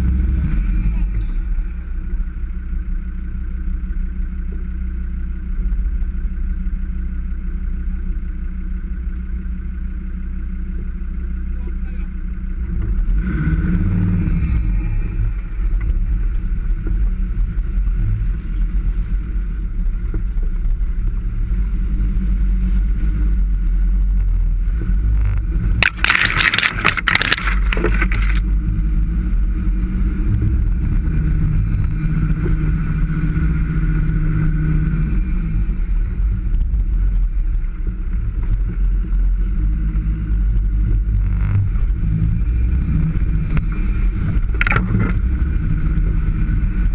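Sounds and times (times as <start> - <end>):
car engine running off-road: 0.0 - 46.9.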